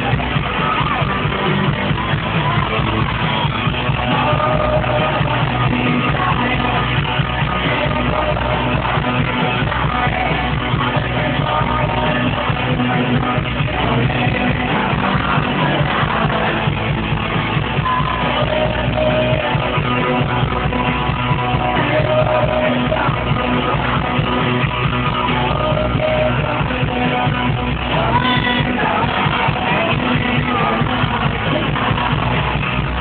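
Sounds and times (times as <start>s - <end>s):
drums: 0.0s - 33.0s
electric guitars: 0.0s - 33.0s
person singing: 0.0s - 33.0s.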